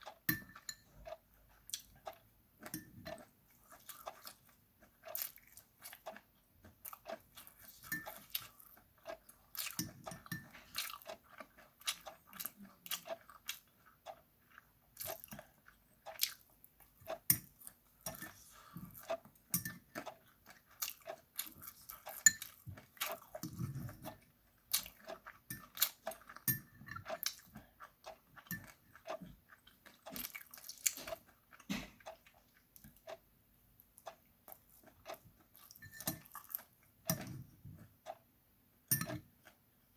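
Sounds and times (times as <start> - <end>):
chewing and crunching: 0.0 - 38.3.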